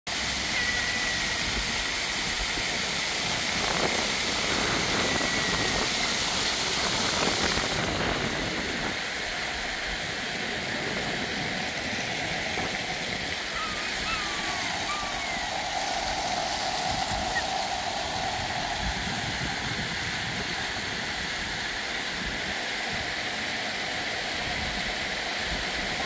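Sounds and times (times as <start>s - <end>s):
fountain jets splashing into pool: 0.1s - 26.0s.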